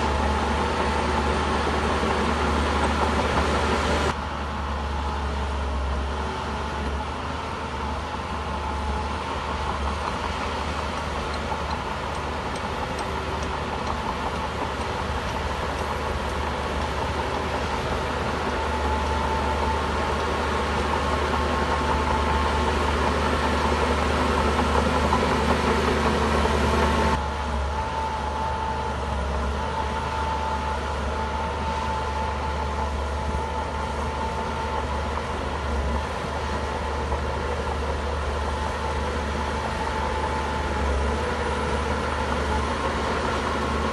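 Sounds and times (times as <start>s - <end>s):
bulldozer diesel engine whining: 0.0s - 43.9s.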